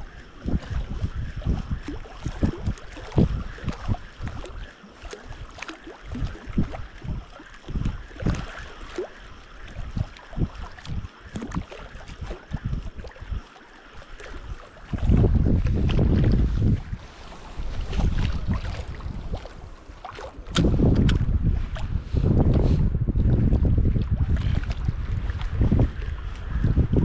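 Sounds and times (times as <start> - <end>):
wind buffeting microphone: 0.0 - 13.4, 14.0 - 27.0.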